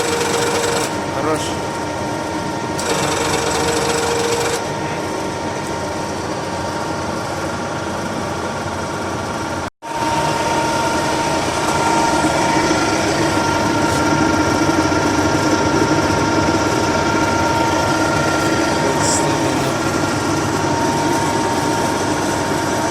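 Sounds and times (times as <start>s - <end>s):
lathe mechanical hum: 0.0s - 22.9s
high steady whine: 4.5s - 22.9s.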